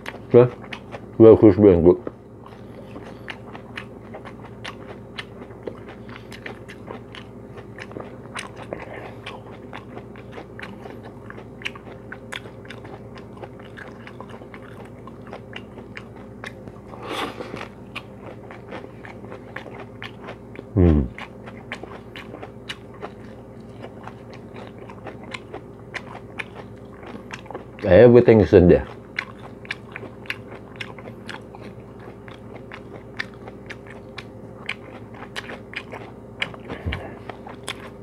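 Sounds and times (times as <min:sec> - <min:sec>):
chewing crunchy food: 0:00.0 - 0:38.0.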